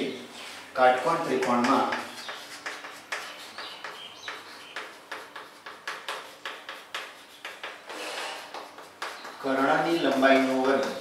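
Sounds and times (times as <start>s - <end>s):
chalk squeaks: 0.4s - 11.0s
chalk writing on blackboard: 0.4s - 11.0s.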